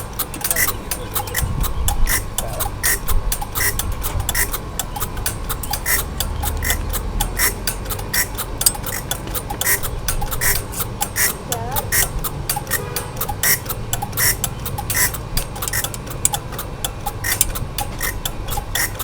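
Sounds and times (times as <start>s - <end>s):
welding machine crackling clicks: 0.0s - 19.0s.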